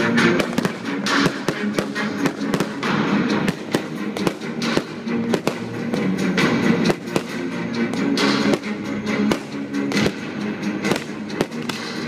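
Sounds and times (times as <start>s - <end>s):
fireworks bursting with bangs: 0.0s - 12.0s
music: 0.0s - 12.0s.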